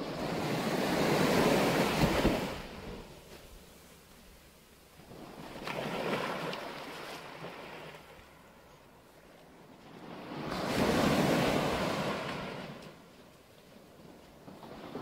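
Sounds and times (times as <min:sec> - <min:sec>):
small waves washing up sand: 0:00.0 - 0:15.0.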